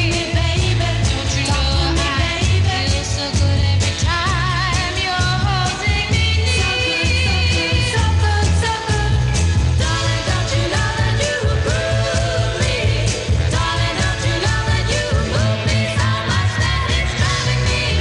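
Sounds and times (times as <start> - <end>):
female vocal group singing: 0.0 - 18.0
steady bass beat: 0.0 - 18.0.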